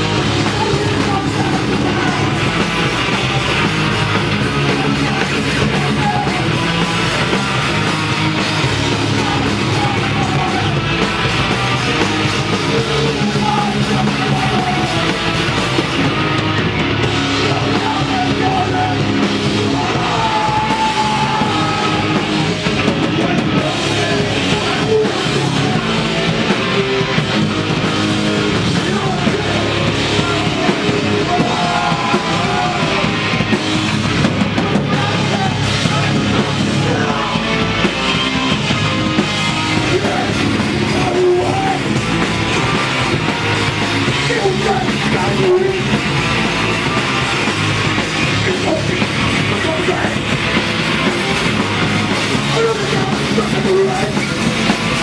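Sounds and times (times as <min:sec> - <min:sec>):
drum kit: 0:00.0 - 0:55.0
electric guitar: 0:00.0 - 0:55.0
shouted vocals: 0:00.0 - 0:55.0.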